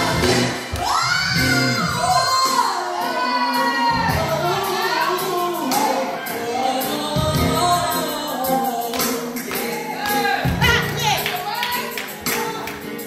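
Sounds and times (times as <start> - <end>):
gospel music with singing: 0.0 - 13.0.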